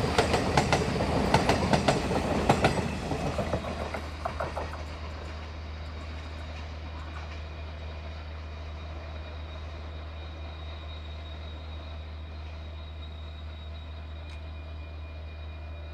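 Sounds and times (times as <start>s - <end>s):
diesel locomotive engine drone: 0.0s - 15.9s.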